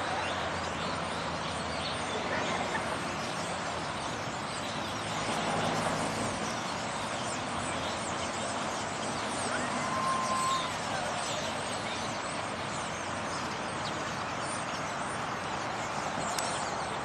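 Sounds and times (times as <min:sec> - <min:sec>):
large flock of birds calling: 0:00.0 - 0:17.0.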